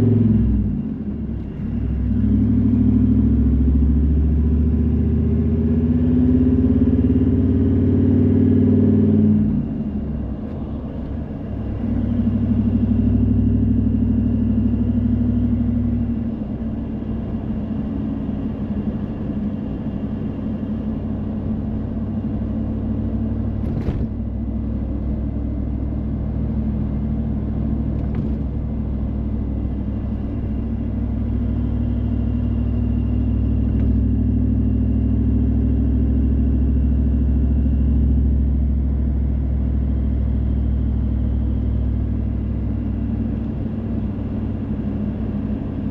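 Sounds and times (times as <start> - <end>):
car engine and tyre rumble: 0.0 - 45.9.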